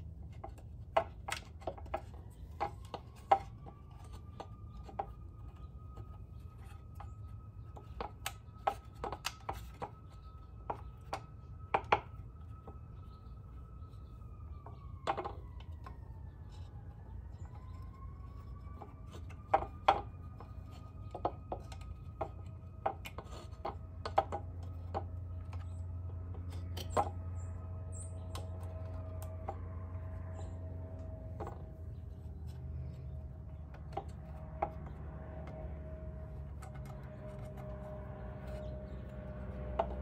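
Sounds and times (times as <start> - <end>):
hands clicking and tapping on metal: 0.0 - 13.2, 14.3 - 40.0.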